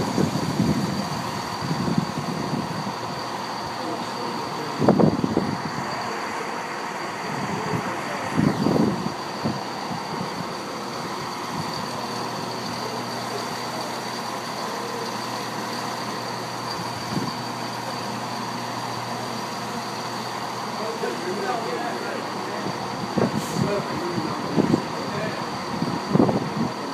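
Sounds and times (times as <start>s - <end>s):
diesel train engines droning: 0.0s - 26.9s
high whine: 0.0s - 26.9s.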